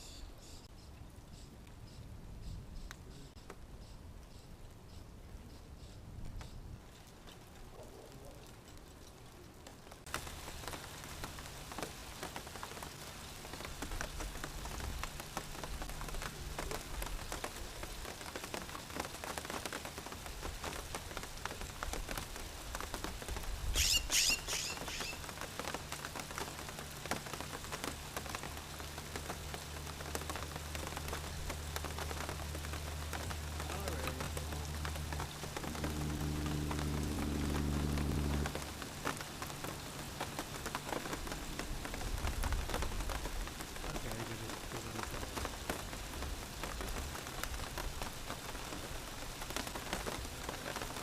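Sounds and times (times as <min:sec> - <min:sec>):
rain pattering: 0:00.6 - 0:51.0.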